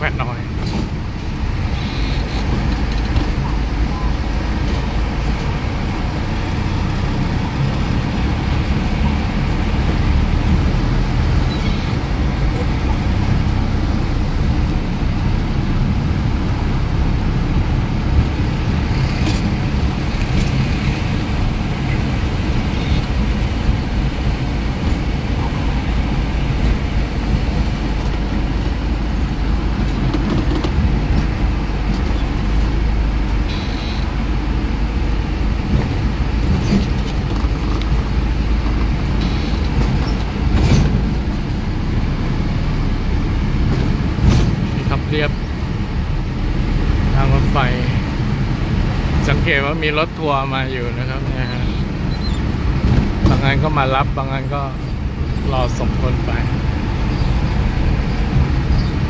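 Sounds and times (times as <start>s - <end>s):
truck engine and tyre rumble: 0.0s - 59.0s.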